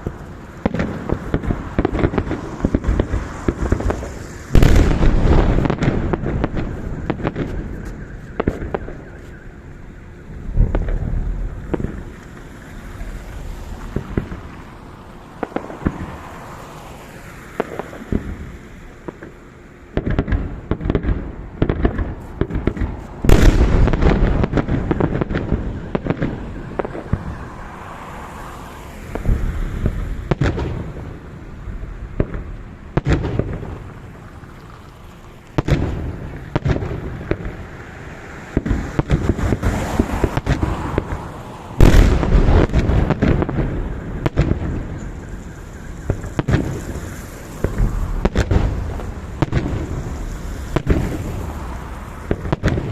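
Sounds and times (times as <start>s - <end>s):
fireworks bursting with loud bangs: 0.0s - 52.9s
fireworks crackling and rumbling: 0.0s - 52.9s.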